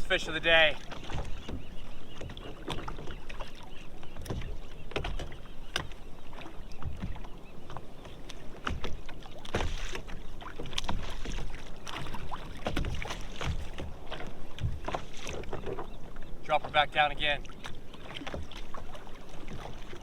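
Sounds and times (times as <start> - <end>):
water slapping against kayak hull: 0.0 - 20.0.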